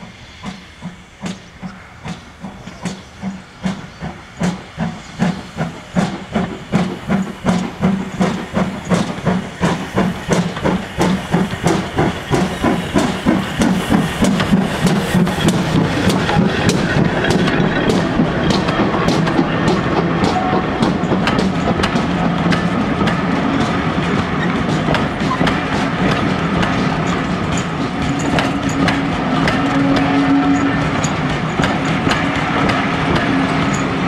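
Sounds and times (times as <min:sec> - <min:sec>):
steam locomotive chuffing: 0:00.0 - 0:34.0.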